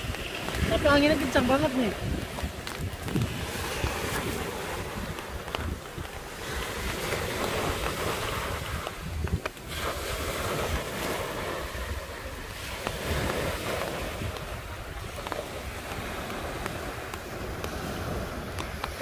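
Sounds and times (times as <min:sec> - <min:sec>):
sea surf washing on beach: 0:00.0 - 0:19.0
wind buffeting microphone: 0:00.0 - 0:19.0.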